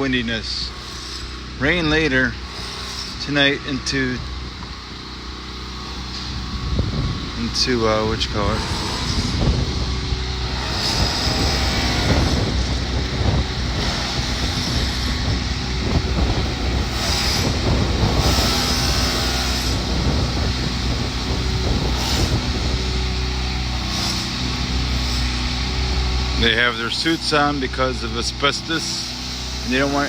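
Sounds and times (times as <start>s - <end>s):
heavy diesel machinery running: 0.0s - 30.0s.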